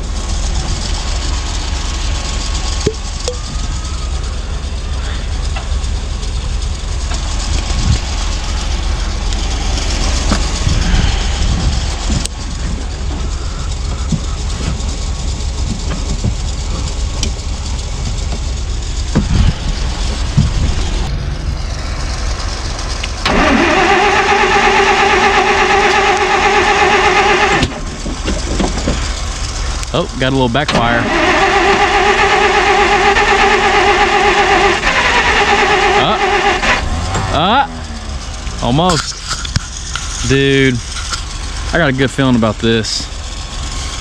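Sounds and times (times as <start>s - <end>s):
engine starter cranking whine: 0.0s - 44.0s.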